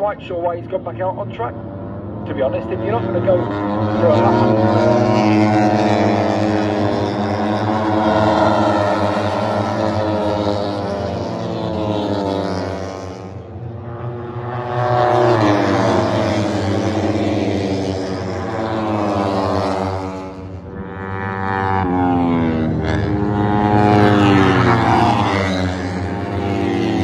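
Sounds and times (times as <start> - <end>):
racing motorbikes passing: 0.0 - 27.0.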